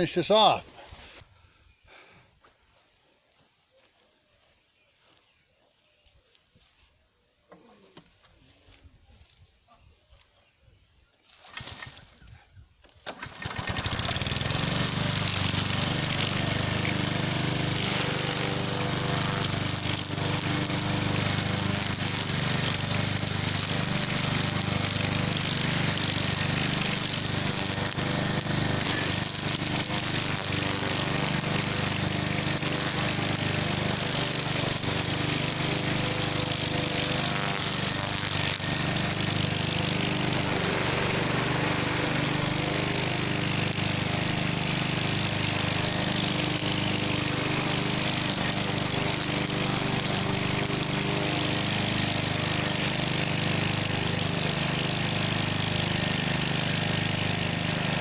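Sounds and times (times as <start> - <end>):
string trimmer engine cutting weeds: 0.0 - 1.2, 11.2 - 58.0.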